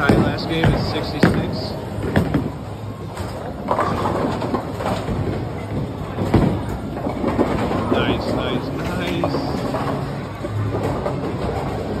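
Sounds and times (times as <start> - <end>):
bowling ball rolling on wooden lane: 0.0 - 12.0.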